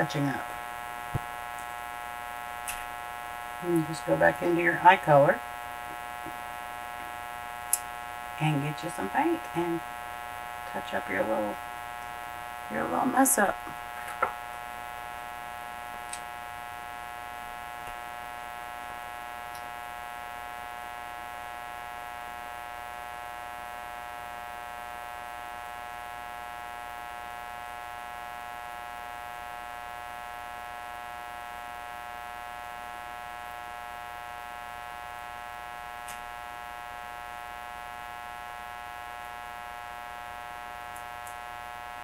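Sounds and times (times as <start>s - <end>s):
electrical buzzing hum: 0.0s - 42.0s.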